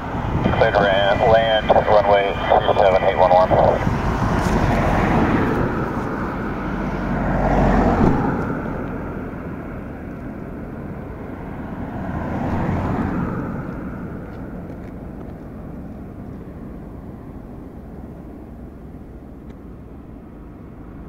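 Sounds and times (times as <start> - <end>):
distant jet engine rumble: 0.0 - 21.0.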